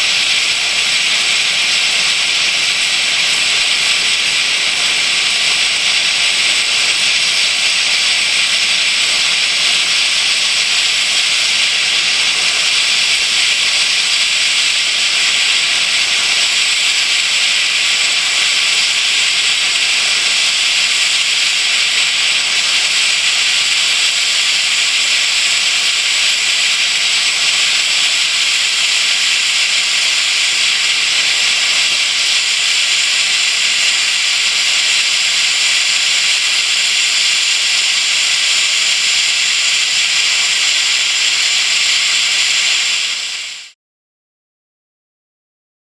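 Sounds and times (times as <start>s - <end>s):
steam hissing from boiler: 0.0s - 43.8s.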